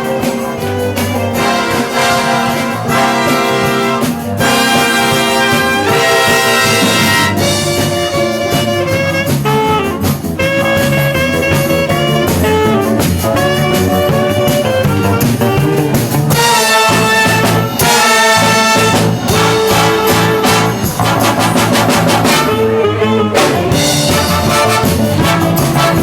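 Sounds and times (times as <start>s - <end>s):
wind band playing dance music: 0.0s - 26.0s.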